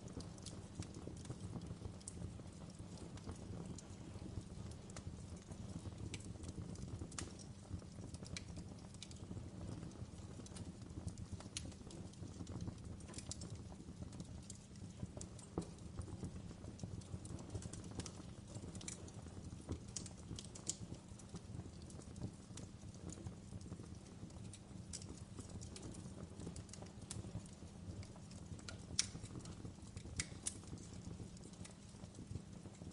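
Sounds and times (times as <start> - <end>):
fire burning rumble: 0.0 - 32.9
fire pops and snaps: 0.0 - 32.9.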